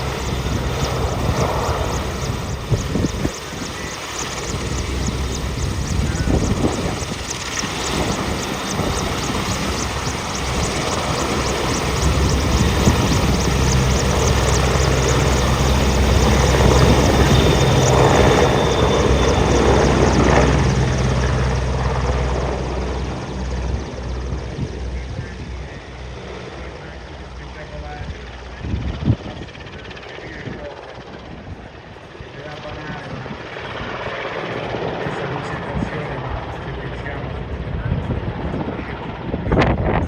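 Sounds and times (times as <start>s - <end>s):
helicopter rotor beat: 0.0s - 40.0s
turbine engine noise: 0.0s - 40.0s.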